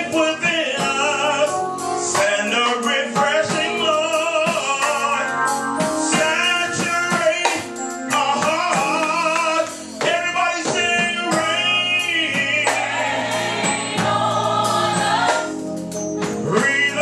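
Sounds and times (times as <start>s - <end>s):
worship song with band: 0.0s - 17.0s.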